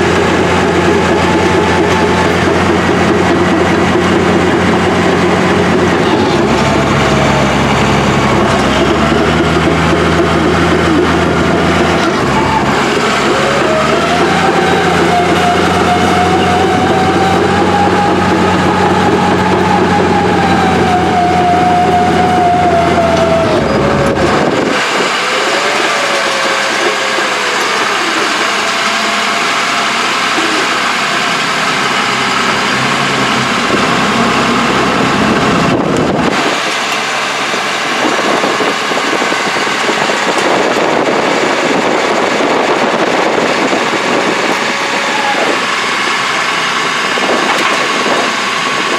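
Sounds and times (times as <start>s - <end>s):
diesel engine whine and rumble: 0.0s - 48.9s.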